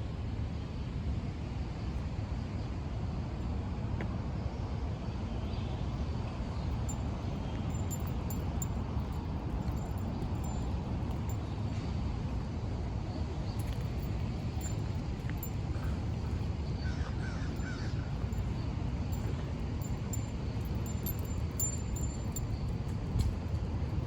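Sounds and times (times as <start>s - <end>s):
city street low rumble: 0.0s - 24.0s.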